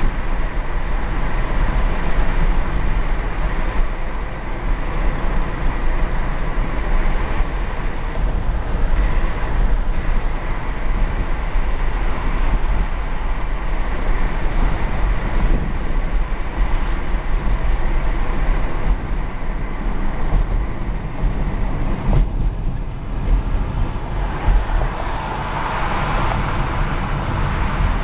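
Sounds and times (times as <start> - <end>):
road and wind noise in car: 0.0 - 28.0.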